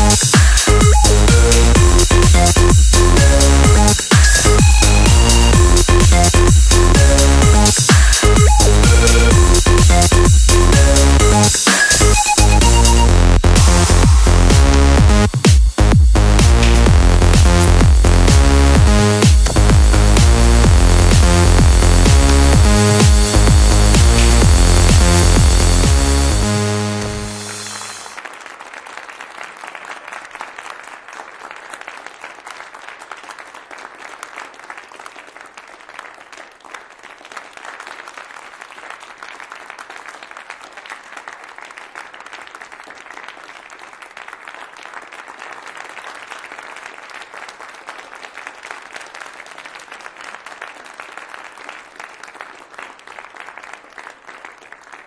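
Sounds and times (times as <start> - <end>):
large crowd applauding: 0.0 - 55.0.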